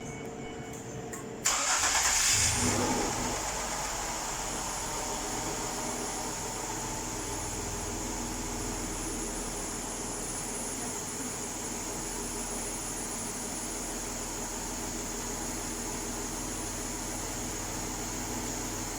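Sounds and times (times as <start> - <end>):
car engine starting and idling: 1.4 - 18.9.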